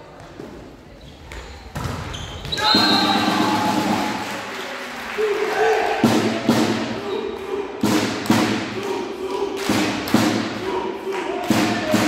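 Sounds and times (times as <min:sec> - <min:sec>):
voices in a hall: 0:00.0 - 0:12.0.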